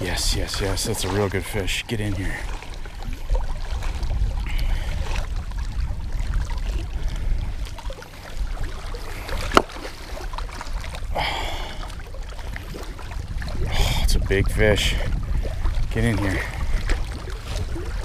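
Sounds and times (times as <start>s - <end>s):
water sloshing on rocky shore: 0.0s - 18.0s
wind rumbling on microphone: 0.0s - 18.0s.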